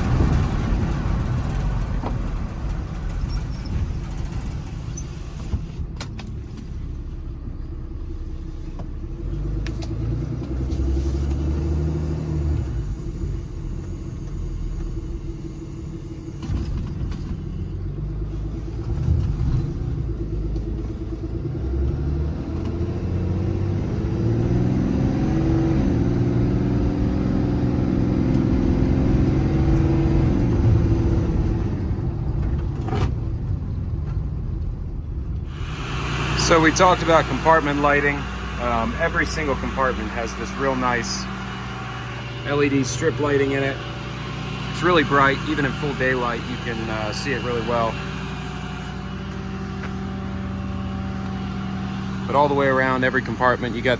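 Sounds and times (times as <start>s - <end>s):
diesel engine rumbling: 0.0s - 53.9s.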